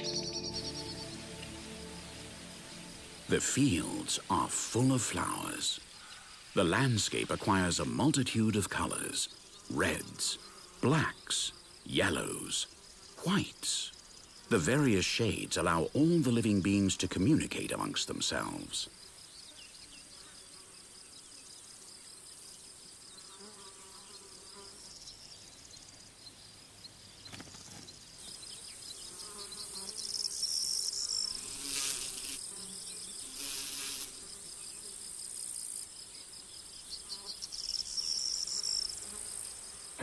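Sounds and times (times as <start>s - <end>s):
crickets trilling: 0.0s - 40.0s
insect rasps: 0.0s - 40.0s
insects buzzing: 0.0s - 40.0s.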